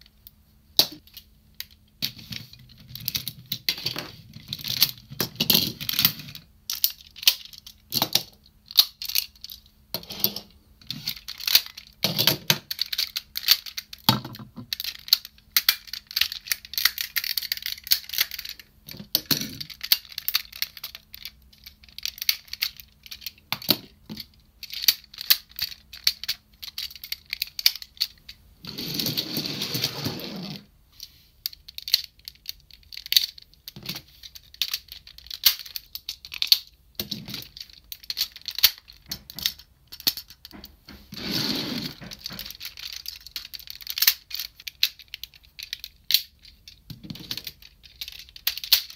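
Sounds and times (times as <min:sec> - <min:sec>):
plastic toy parts clicking and snapping: 0:00.8 - 0:09.7, 0:10.8 - 0:28.4, 0:31.4 - 0:40.7, 0:42.0 - 0:48.9.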